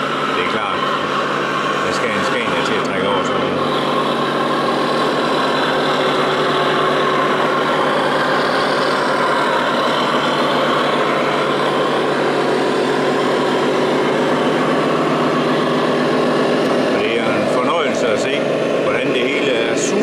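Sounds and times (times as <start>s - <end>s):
truck engine sound from speaker: 0.0s - 20.0s.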